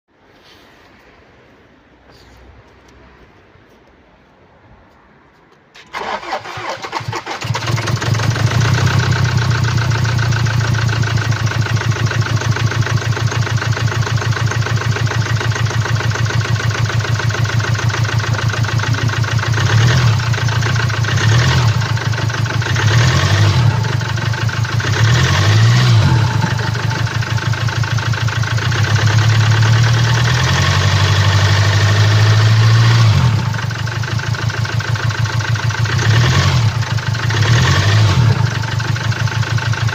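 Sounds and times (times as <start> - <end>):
diesel engine idling and revving: 5.8 - 39.9.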